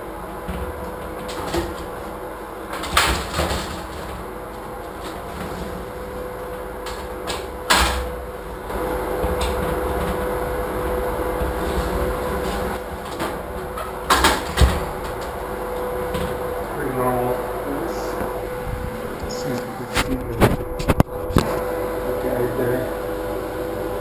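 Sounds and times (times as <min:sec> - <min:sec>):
door rolling in metal track: 0:00.0 - 0:21.4.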